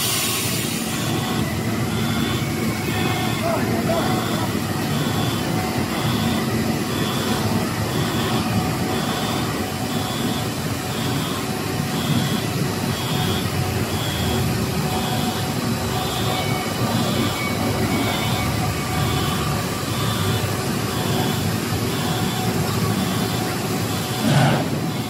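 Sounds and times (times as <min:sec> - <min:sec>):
high machine tone: 0:00.0 - 0:25.0
steady mechanical drone: 0:00.0 - 0:25.0.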